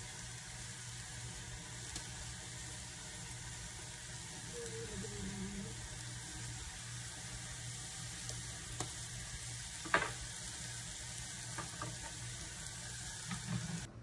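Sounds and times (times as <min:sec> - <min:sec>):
meat sizzling in oil: 0:00.0 - 0:13.9.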